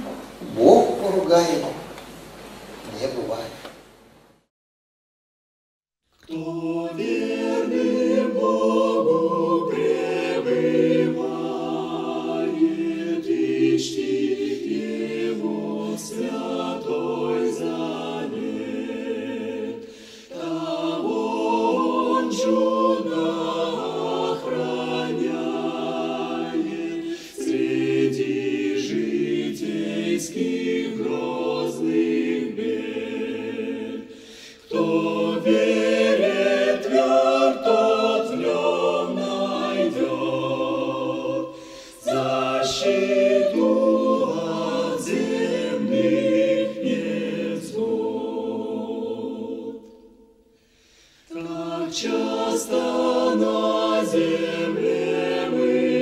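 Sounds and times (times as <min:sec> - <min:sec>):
choir singing unaccompanied: 0:06.2 - 0:50.5, 0:51.2 - 0:56.0.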